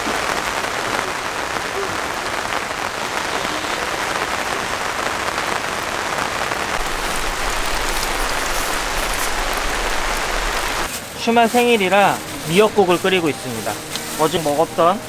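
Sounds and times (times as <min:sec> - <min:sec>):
heavy rain on tarp and trees: 0:00.0 - 0:15.0.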